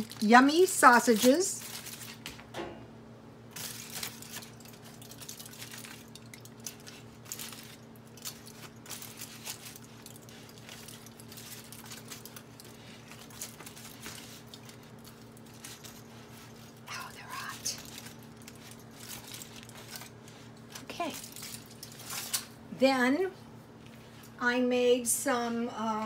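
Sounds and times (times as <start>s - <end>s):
aluminium foil crinkling: 0.0s - 2.5s, 3.5s - 22.6s
steady low hum: 0.0s - 26.0s.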